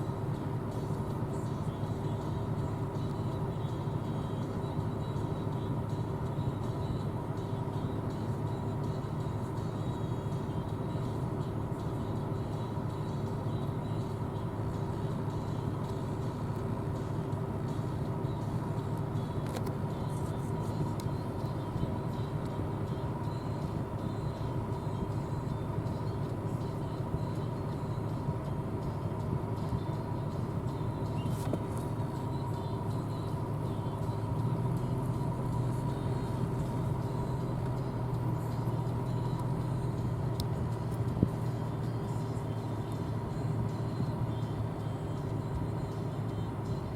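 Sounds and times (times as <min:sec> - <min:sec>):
combine harvester running: 0:00.0 - 0:46.9.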